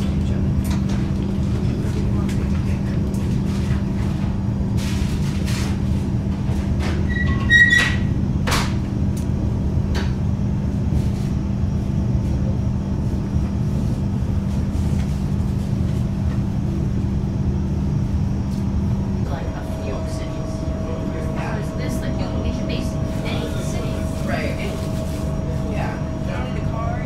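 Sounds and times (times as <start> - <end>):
train cabin rumble and hum: 0.0 - 27.0.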